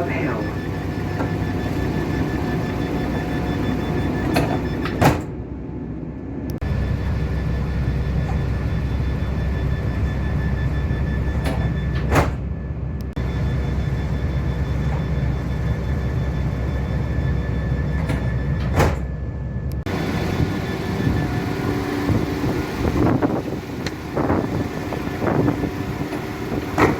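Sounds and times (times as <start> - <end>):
diesel train rumbling: 0.0 - 26.9.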